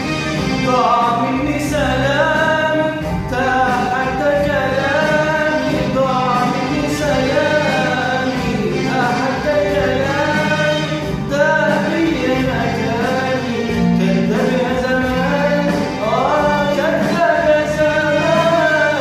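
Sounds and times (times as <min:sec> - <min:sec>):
instrumental backing: 0:00.0 - 0:19.0
man singing long held notes: 0:00.5 - 0:19.0.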